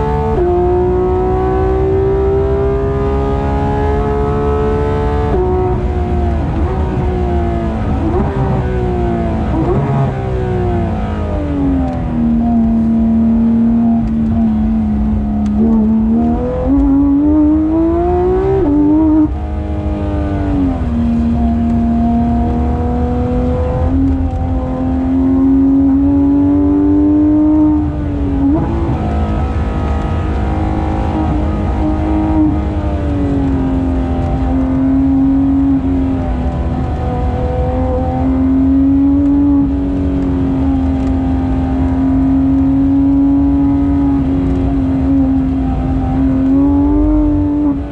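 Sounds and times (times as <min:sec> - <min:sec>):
race car engine at high revs: 0:00.0 - 0:47.9.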